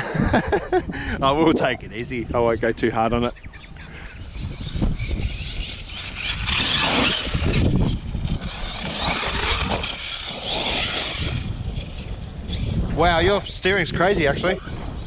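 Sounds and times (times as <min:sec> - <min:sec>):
rc truck motor whining: 0:02.2 - 0:15.0.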